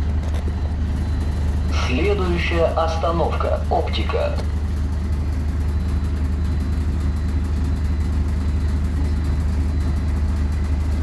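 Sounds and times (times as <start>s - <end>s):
bus engine humming: 0.0s - 11.0s
road and cabin noise: 0.0s - 11.0s.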